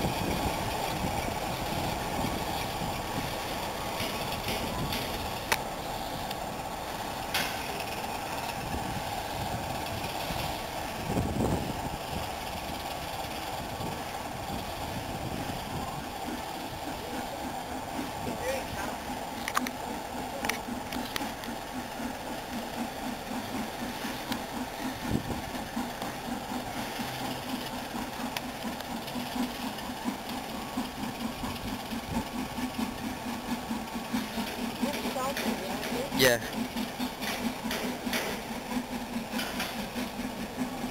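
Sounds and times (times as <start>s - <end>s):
diesel locomotive engine rumbling: 0.0s - 40.9s.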